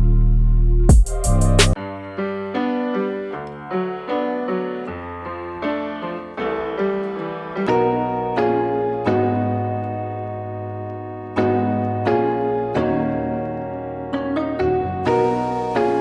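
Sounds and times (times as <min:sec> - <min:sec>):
soft piano playing: 0:00.9 - 0:16.0.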